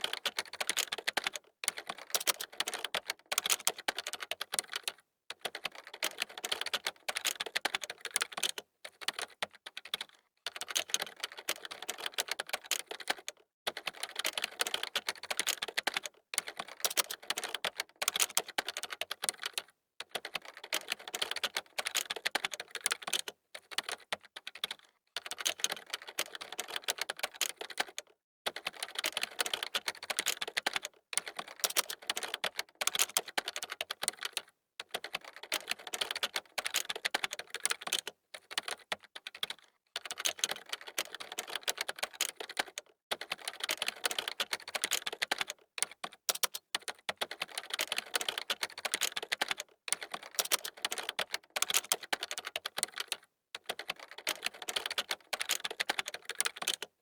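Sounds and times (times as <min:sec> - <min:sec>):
fast typing on a keyboard: 0:00.0 - 0:57.0.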